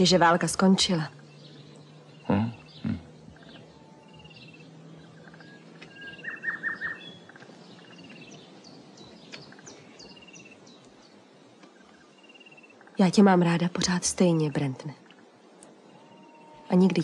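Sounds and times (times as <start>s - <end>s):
birds chirping: 0.0s - 17.0s
faint background hiss: 0.0s - 17.0s.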